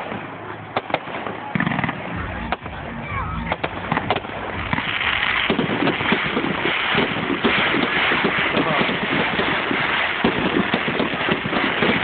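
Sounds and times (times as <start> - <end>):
continuous rushing noise: 0.0 - 12.0
fireworks bangs: 0.0 - 12.0.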